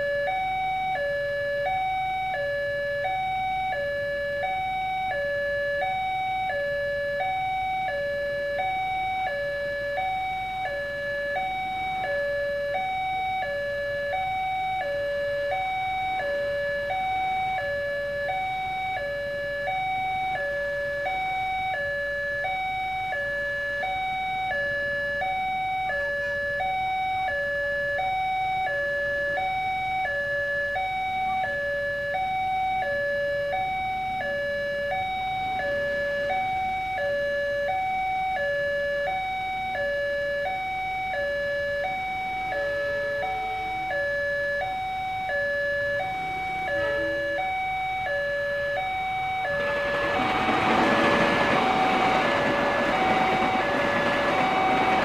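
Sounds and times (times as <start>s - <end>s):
level crossing warning alarm: 0.0s - 55.0s.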